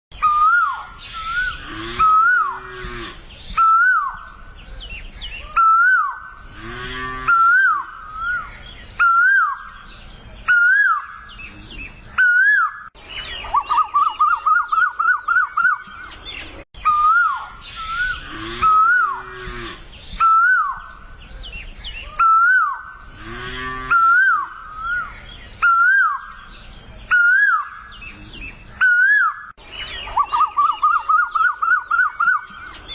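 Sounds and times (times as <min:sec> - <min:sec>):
low pitched bird calls: 0:00.1 - 0:32.9
bird whistled call: 0:00.2 - 0:02.6, 0:03.5 - 0:06.4, 0:07.2 - 0:11.4, 0:12.1 - 0:16.2, 0:16.8 - 0:19.3, 0:20.1 - 0:23.0, 0:23.9 - 0:32.9.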